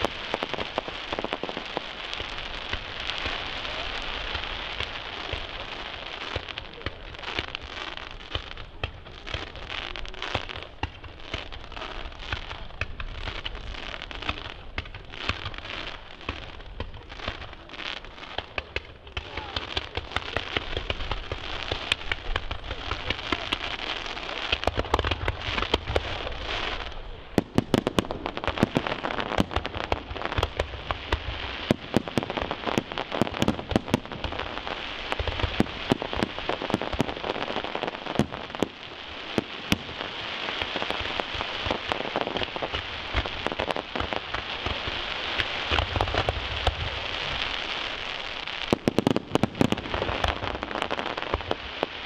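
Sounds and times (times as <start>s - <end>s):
fireworks crackling: 0.0s - 52.0s.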